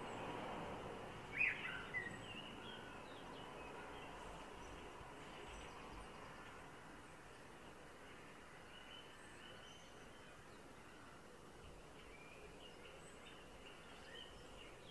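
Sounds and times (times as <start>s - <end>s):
outdoor background hiss: 0.0s - 14.9s.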